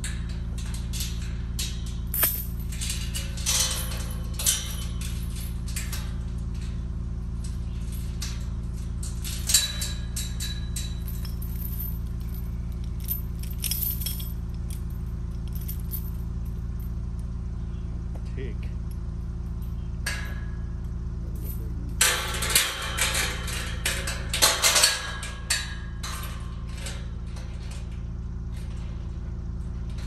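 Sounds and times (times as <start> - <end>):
light metallic jingles: 0.1 - 17.8, 18.7 - 30.0.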